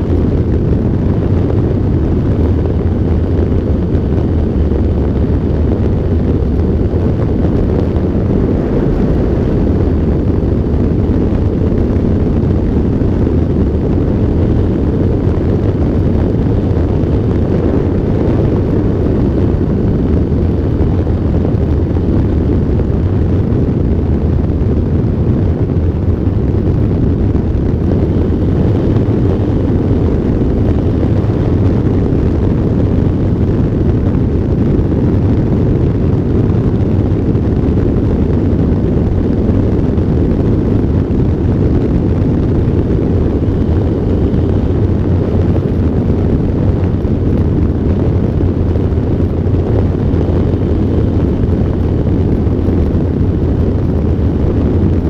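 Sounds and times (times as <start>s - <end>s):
propeller noise: 0.0s - 55.0s
wind buffeting microphone: 0.0s - 55.0s.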